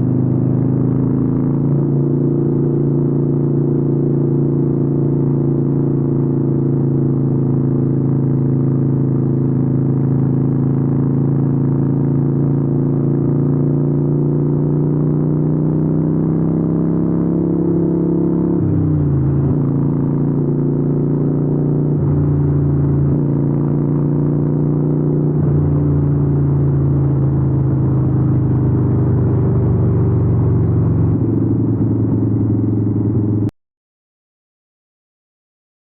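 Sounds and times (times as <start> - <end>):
motorcycle engine while riding: 0.0 - 33.5.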